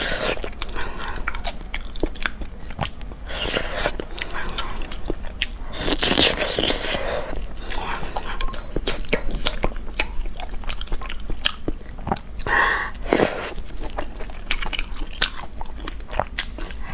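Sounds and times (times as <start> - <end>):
wet chewing and lip smacking: 0.0 - 16.9.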